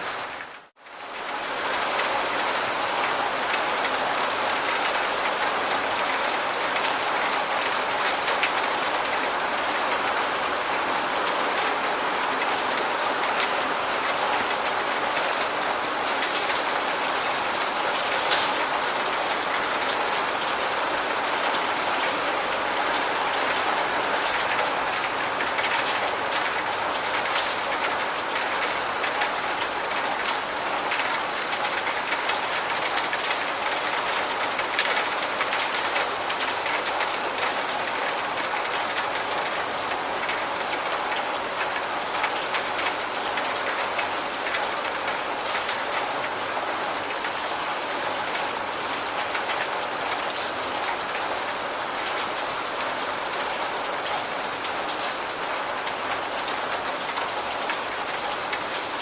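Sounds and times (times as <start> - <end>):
raindrops ticking on surface: 0.0 - 59.0
steady rain falling: 0.0 - 59.0.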